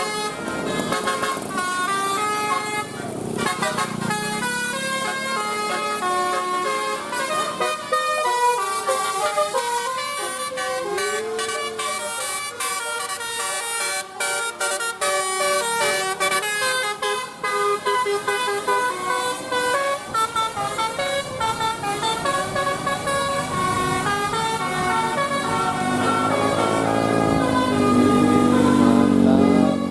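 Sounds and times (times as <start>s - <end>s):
bus horn playing a melody: 0.0s - 29.9s.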